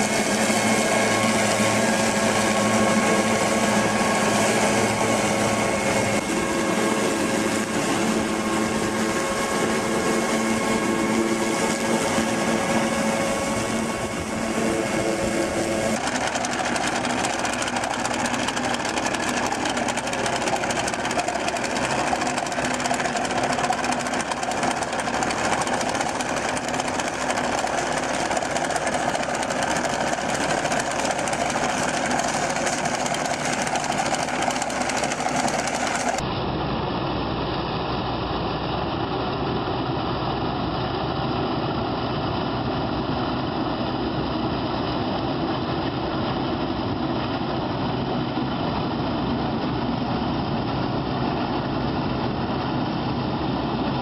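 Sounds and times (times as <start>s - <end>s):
heavy farm machinery running: 0.0s - 54.0s.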